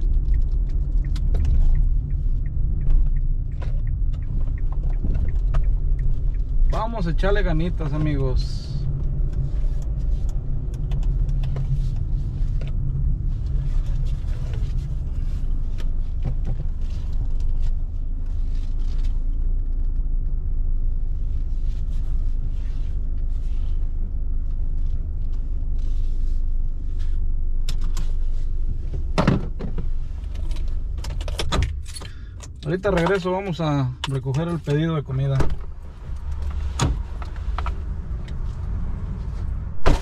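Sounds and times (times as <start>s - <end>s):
engine and tyre rumble: 0.0s - 40.0s.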